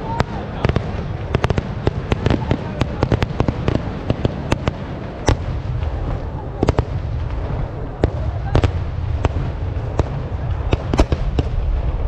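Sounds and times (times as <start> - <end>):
continuous low rumble: 0.0 - 12.0
fireworks cracking: 0.0 - 12.0.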